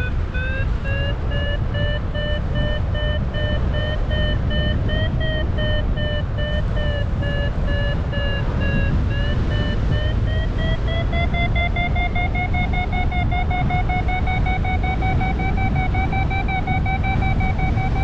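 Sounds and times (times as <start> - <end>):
variometer beeping: 0.0 - 18.0
wind rushing over microphone: 0.0 - 18.0.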